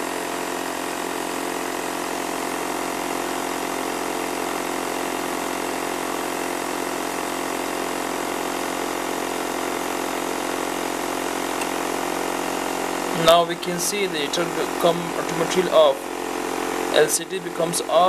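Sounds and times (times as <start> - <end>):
fan heater blower humming: 0.0 - 18.0.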